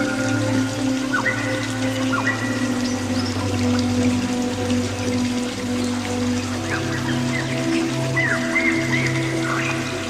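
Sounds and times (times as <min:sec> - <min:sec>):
ambient music with low drone: 0:00.0 - 0:10.0
rain pattering: 0:00.0 - 0:10.0.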